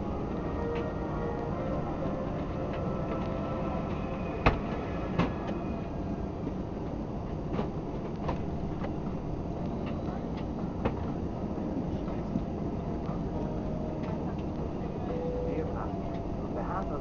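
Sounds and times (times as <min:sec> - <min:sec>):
aircraft cabin rumble while taxiing: 0:00.3 - 0:17.0.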